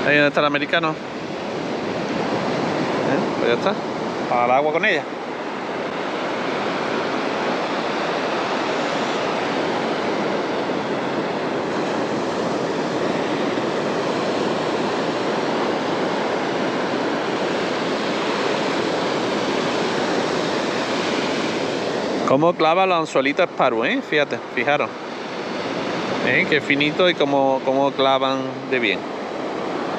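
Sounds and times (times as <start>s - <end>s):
sea surf breaking: 0.0s - 29.9s.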